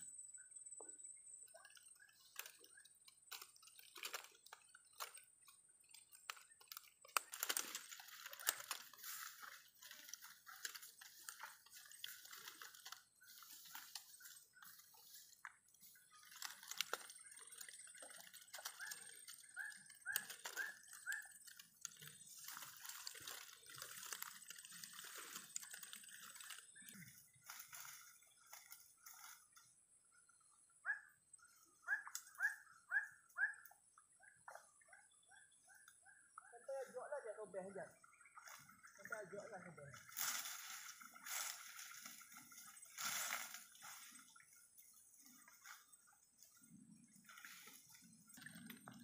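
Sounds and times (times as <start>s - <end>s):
swamp water sloshing and dripping: 0.8s - 49.0s
small splashes and clicks: 1.2s - 30.2s, 31.3s - 36.0s, 36.8s - 49.0s.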